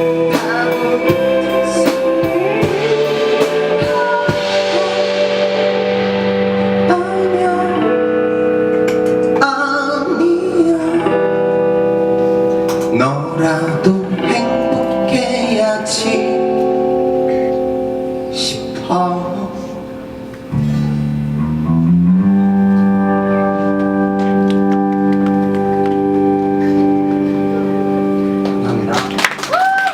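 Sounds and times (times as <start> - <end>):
electric guitar chords strummed: 0.0 - 29.5.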